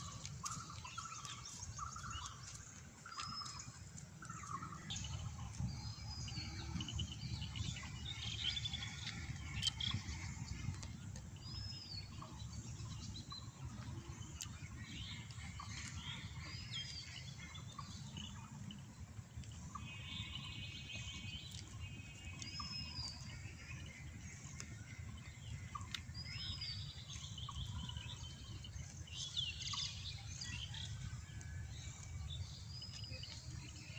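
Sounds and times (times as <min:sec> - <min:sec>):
low rumble: 0:00.0 - 0:33.8
birds chirping: 0:00.0 - 0:33.9.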